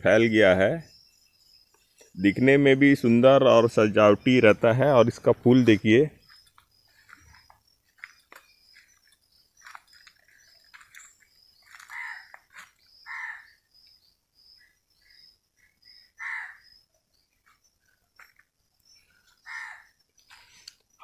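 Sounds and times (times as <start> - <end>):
birds chirping: 0.0 - 21.0
high insect drone: 0.1 - 21.0.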